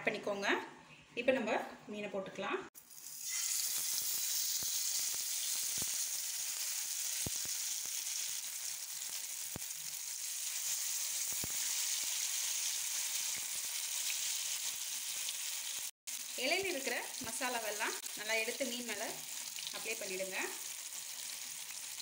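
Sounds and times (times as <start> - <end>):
fish sizzling in hot oil: 2.8 - 22.0.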